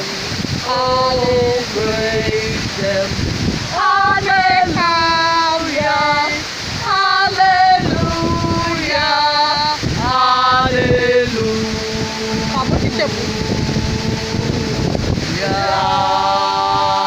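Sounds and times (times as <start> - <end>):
woman singing: 0.0 - 14.8
steady rushing noise: 0.0 - 17.0.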